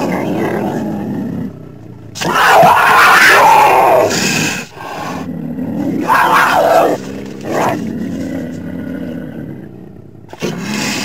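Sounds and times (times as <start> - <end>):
cougar calling: 0.0 - 11.0.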